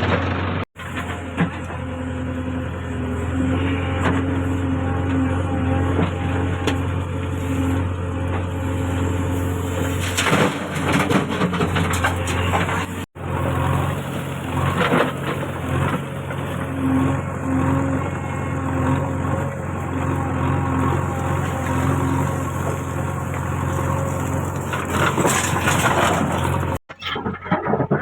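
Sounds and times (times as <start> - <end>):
diesel engine running: 0.0 - 28.0
bucket clattering and scraping: 3.2 - 20.0, 20.8 - 28.0.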